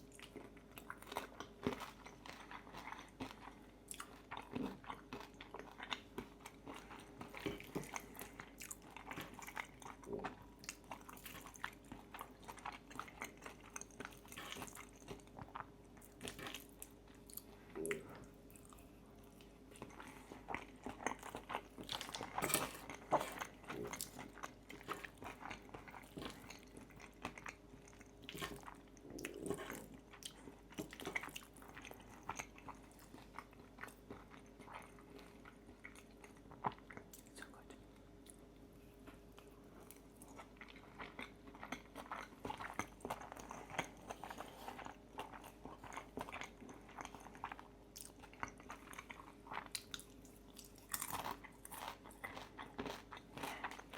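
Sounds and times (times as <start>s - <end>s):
crunchy food chewing: 0.0s - 53.9s.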